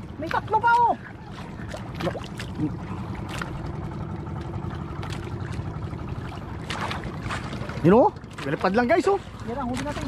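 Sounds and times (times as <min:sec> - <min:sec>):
boat engine hum: 0:00.0 - 0:10.0
water noise: 0:00.0 - 0:10.0.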